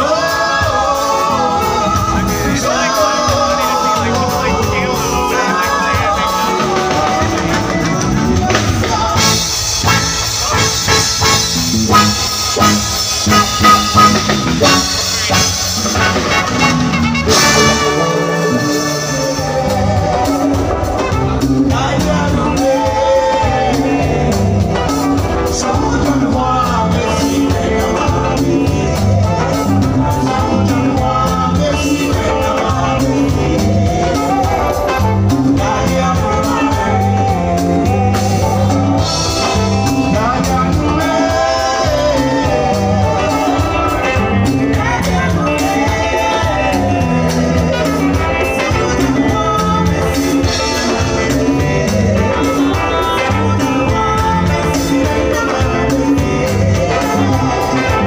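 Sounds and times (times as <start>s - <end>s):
women singing backing vocals: 0.0s - 10.1s, 17.3s - 58.0s
bass line: 0.0s - 58.0s
drum kit: 0.0s - 58.0s
electric guitar: 0.0s - 58.0s
keyboards: 0.0s - 58.0s
man singing lead: 0.0s - 58.0s.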